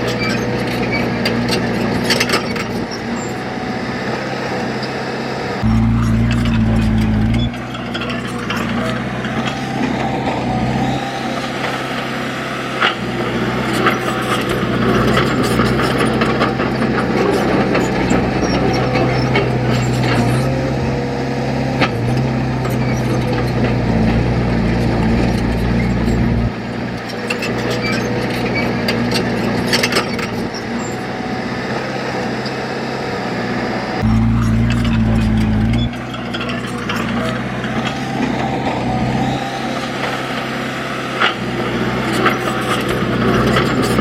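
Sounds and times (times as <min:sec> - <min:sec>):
heavy diesel engine under load: 0:00.0 - 0:44.0.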